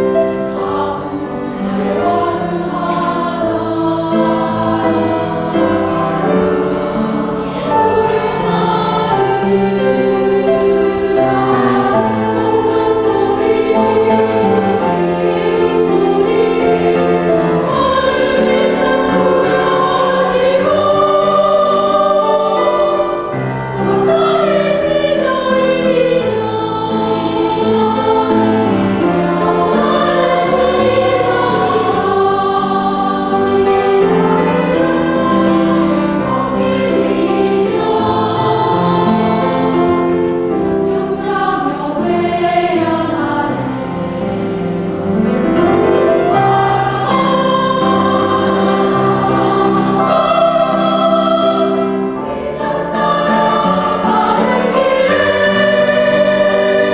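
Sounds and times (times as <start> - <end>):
choir singing sustained chords: 0.0 - 56.9.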